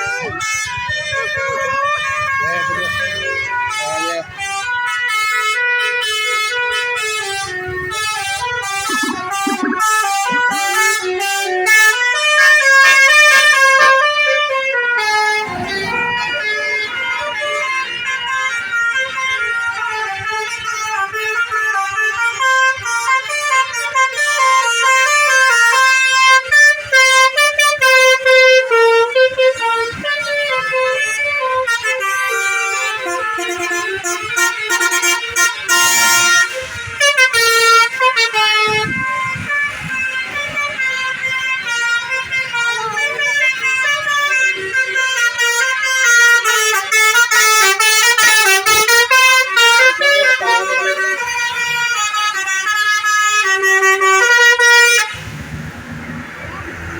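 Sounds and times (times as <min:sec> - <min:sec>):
multi-tone bus horns playing tunes: 0:00.0 - 0:56.9.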